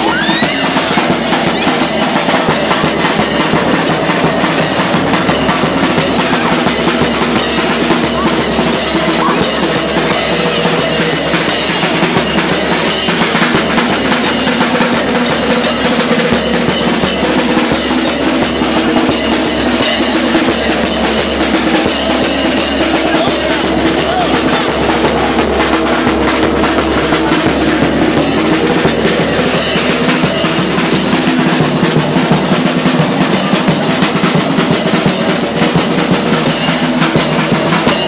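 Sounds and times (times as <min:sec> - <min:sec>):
street drumming dance rhythm: 0:00.0 - 0:38.0.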